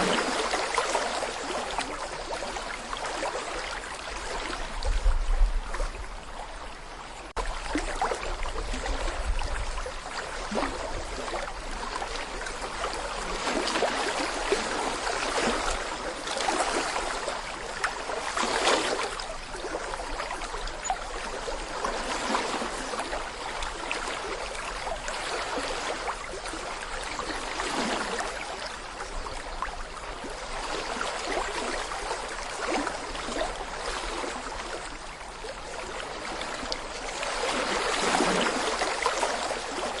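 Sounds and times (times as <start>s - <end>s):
brook babbling over stones: 0.0s - 40.0s.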